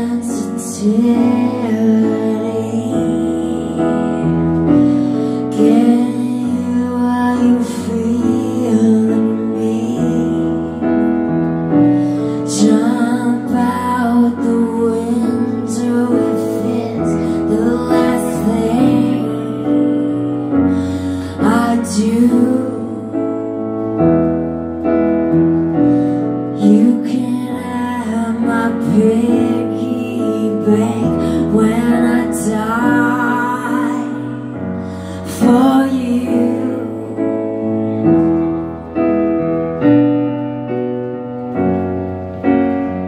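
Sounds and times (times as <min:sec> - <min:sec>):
woman singing: 0:00.0 - 0:23.9, 0:26.5 - 0:38.0.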